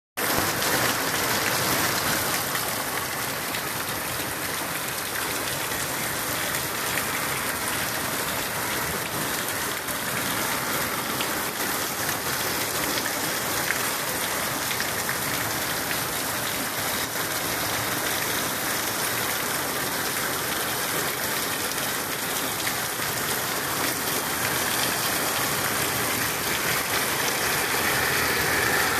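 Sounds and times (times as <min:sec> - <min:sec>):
steady rain falling: 0:00.2 - 0:28.9.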